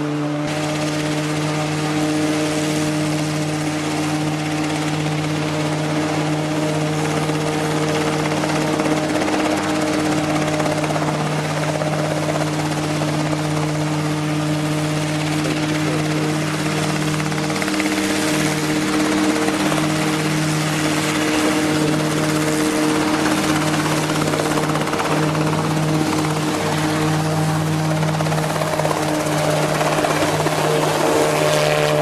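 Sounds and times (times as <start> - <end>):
ultralight helicopter engine and rotor: 0.0 - 32.0.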